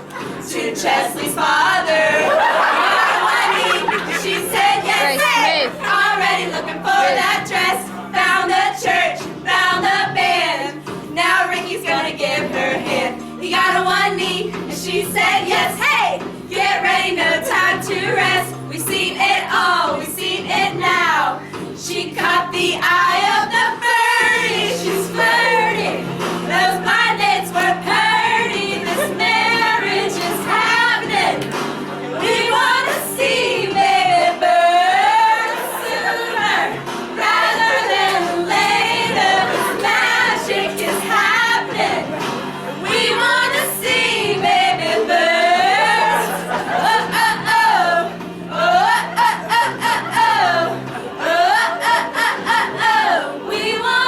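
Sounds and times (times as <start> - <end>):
group of voices singing: 0.0 - 54.0
instrumental backing music: 0.0 - 54.0.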